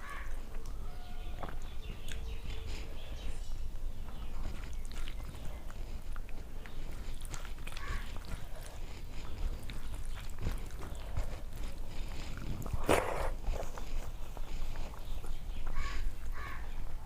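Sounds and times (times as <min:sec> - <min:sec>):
person chewing and biting food: 0:00.3 - 0:03.4, 0:04.1 - 0:16.6.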